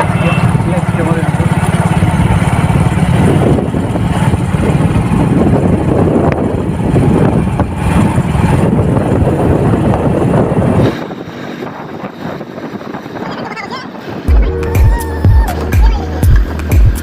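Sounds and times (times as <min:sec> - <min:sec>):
motorcycle running: 0:00.0 - 0:17.0
wind on microphone: 0:01.6 - 0:17.0.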